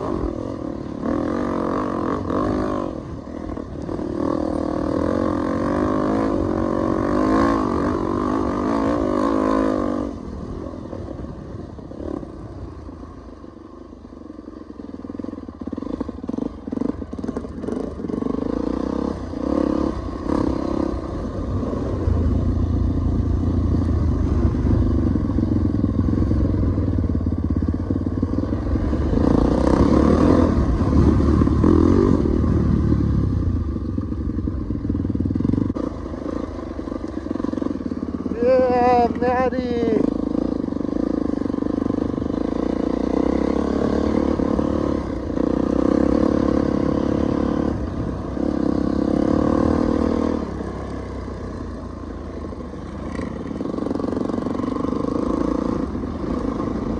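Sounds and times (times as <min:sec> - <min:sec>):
dirt bike engine: 0:00.0 - 0:56.9.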